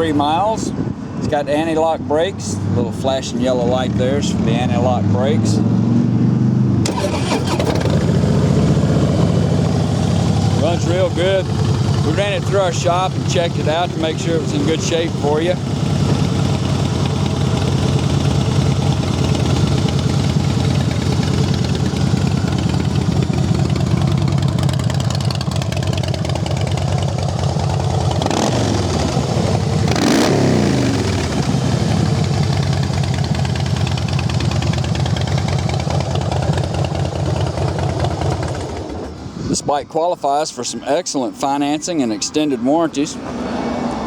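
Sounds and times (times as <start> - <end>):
motorcycle engine idling and revving: 0.0 - 39.5.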